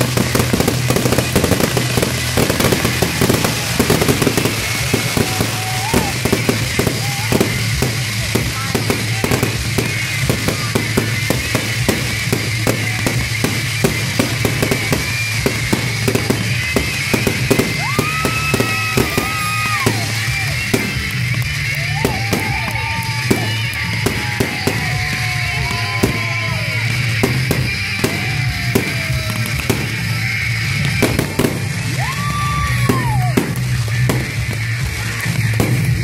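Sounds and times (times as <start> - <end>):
fireworks bangs and crackles: 0.0 - 36.0
rock music with drums: 0.0 - 36.0.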